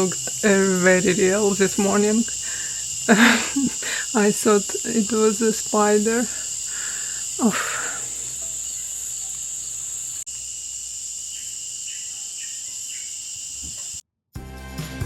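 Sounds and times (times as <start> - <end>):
insects night chorus: 0.0 - 14.0.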